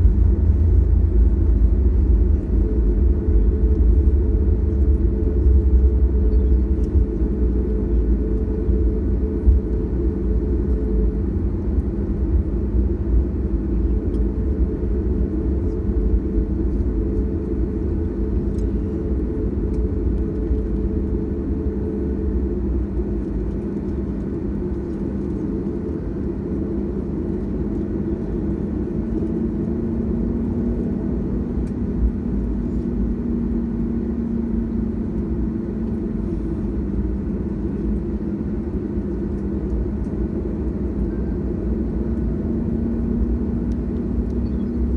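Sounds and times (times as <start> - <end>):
jet engines humming: 0.0 - 44.9.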